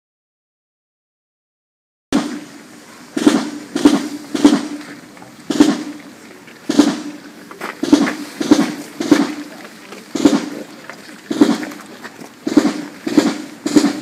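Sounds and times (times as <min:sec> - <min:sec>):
marching drum strokes: 0:02.1 - 0:14.0.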